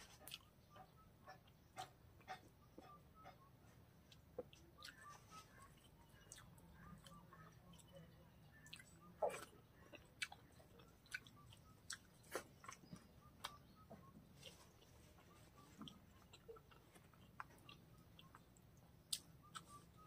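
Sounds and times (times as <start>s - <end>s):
close chewing: 0.0s - 20.0s.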